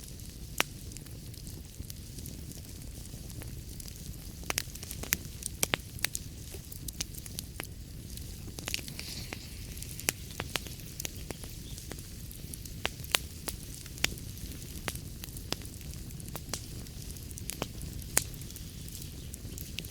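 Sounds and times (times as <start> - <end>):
fire crackling and popping: 0.0 - 19.9
low rumble and hiss of burning: 0.0 - 19.9.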